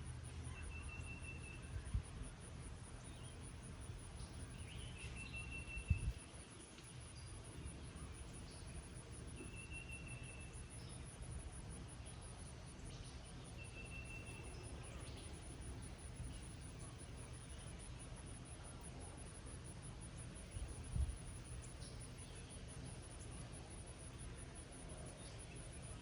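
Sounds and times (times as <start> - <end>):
insect trill: 0.0 - 26.0.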